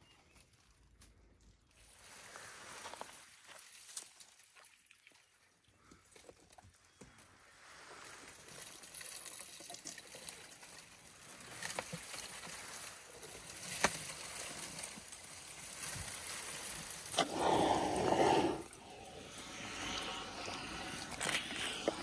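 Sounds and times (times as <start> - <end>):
elephant chewing leaves and twigs: 0.2 - 22.0.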